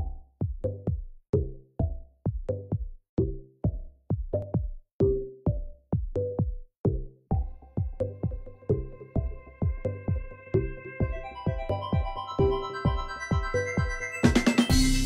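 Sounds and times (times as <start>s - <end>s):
electronic music with drum-machine beat: 0.0s - 15.0s.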